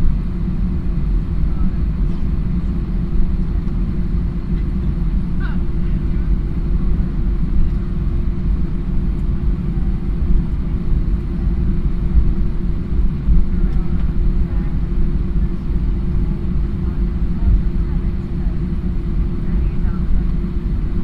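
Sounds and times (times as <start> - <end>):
low rumble of terminal noise: 0.0 - 21.0.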